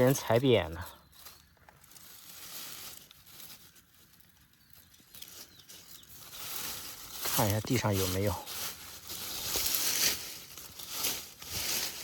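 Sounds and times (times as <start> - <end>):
rustling dry plant material: 0.0 - 12.0.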